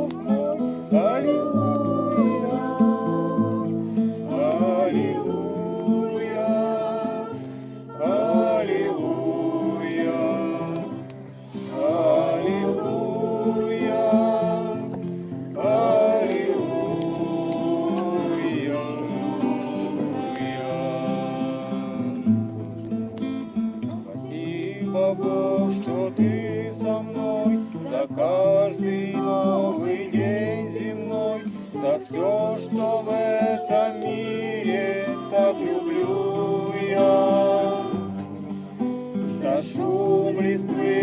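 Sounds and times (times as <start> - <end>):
group singing a hymn: 0.0 - 41.0
strummed acoustic guitar: 0.0 - 41.0.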